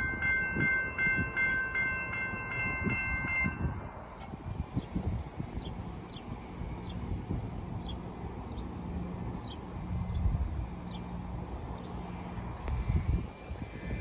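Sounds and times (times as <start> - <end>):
diesel locomotives rumbling: 0.0 - 14.0.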